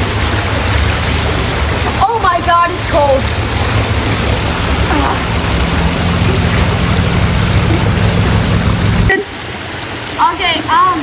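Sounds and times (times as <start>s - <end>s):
low rumble: 0.0s - 9.1s
pool water splashing: 0.0s - 11.0s.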